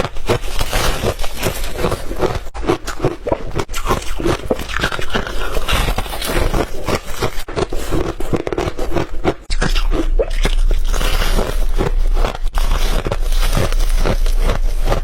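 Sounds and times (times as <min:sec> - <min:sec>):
person chewing ice: 0:00.0 - 0:15.0.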